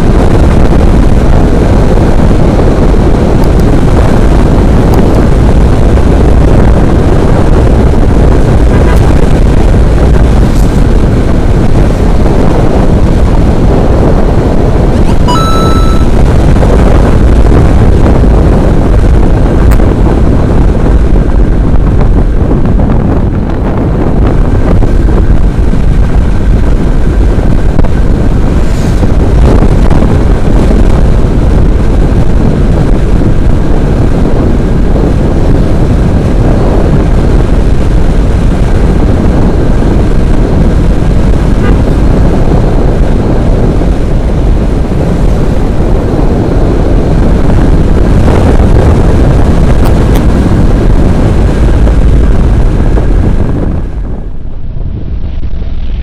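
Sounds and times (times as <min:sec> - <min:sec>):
motorcycle running: 0:00.0 - 0:56.0
road noise: 0:00.0 - 0:56.0
wind buffeting microphone: 0:00.0 - 0:56.0.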